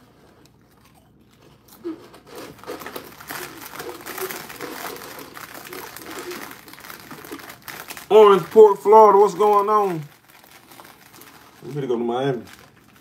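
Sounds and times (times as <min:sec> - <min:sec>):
chip bag rustling: 0:00.0 - 0:13.0.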